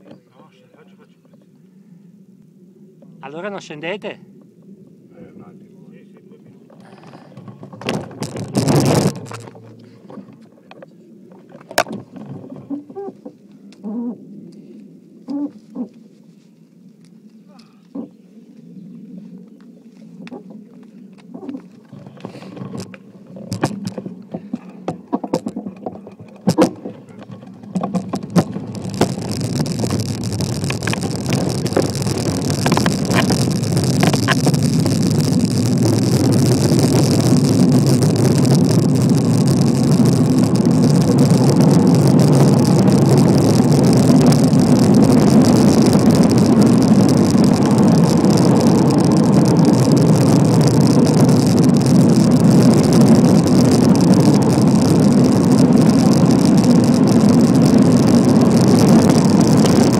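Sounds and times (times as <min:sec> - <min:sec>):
wind rushing over microphone: 0:02.0 - 0:16.2, 0:18.0 - 0:59.9.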